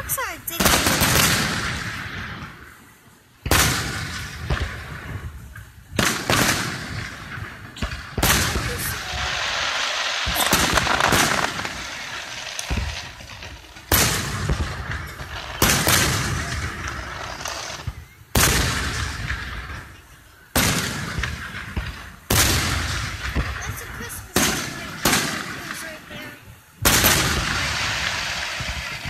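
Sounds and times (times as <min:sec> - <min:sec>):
firework crackling: 0:00.0 - 0:29.0
firework shells bursting with bangs: 0:00.0 - 0:29.0.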